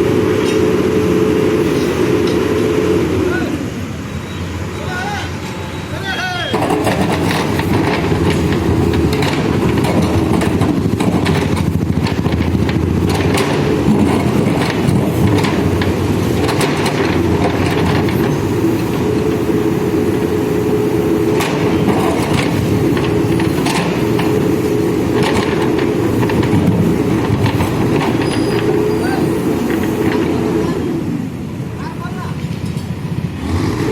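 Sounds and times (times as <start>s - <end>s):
backhoe diesel engine running: 0.0s - 33.9s.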